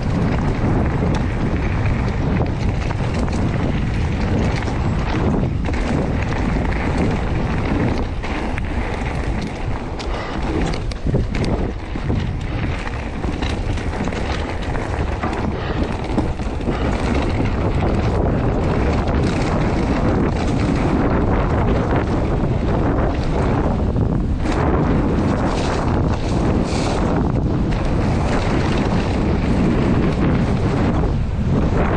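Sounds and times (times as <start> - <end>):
bike clicks and knocks: 0.0 - 31.9
wind noise on microphone: 0.0 - 31.9.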